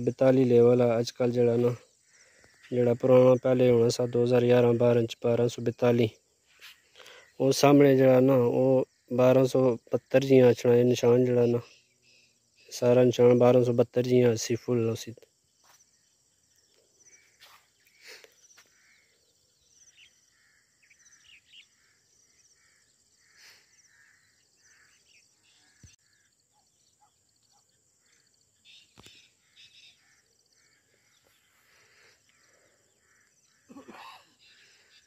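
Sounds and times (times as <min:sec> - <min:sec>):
faint bird chirps: 0:00.0 - 0:35.0
faint insect chirring: 0:00.0 - 0:35.0.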